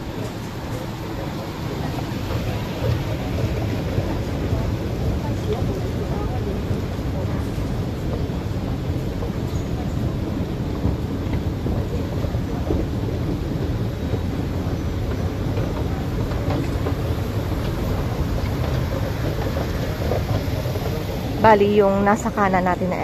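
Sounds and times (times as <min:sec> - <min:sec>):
underground station rumbling ambience: 0:00.0 - 0:23.0.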